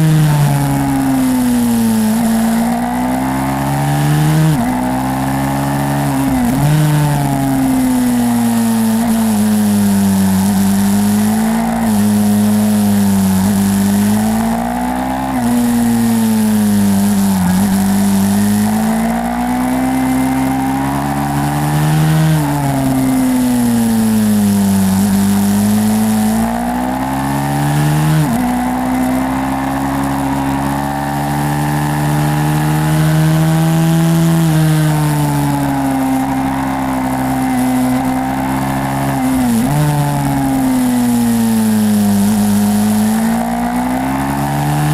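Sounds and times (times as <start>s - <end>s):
motorbike engine running hard: 0.0s - 44.9s.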